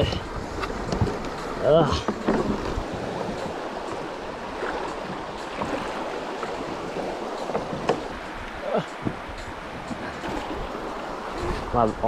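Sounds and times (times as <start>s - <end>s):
river water running over stones: 0.0s - 12.0s.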